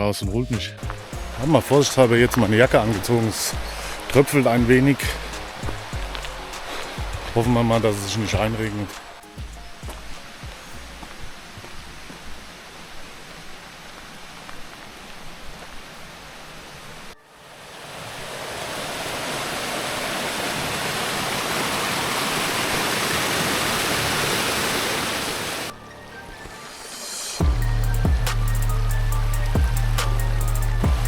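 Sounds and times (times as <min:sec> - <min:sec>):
rushing mountain water: 0:00.0 - 0:31.0
outdoor hiss: 0:00.6 - 0:31.0.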